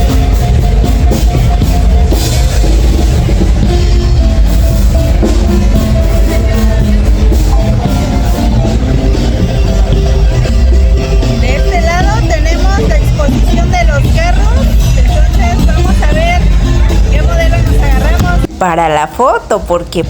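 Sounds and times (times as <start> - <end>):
rock music: 0.0 - 18.6
driving drum kit: 0.0 - 18.9
heavy bass: 0.0 - 20.0.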